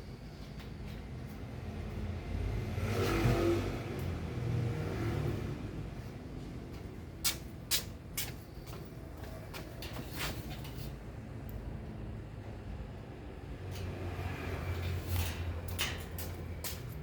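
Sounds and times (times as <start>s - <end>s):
vehicle passing by: 0.9s - 7.2s, 8.9s - 17.0s.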